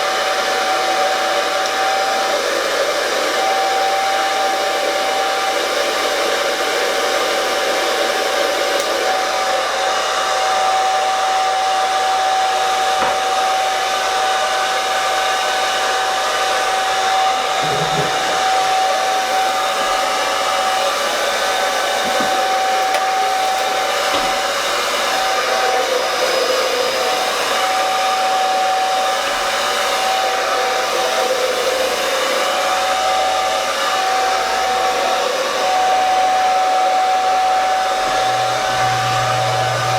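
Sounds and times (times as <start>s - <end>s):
hair dryer whining: 0.0s - 39.9s.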